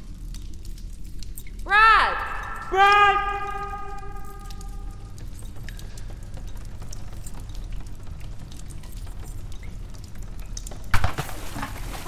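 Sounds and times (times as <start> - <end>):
water drips: 0.0 - 12.0.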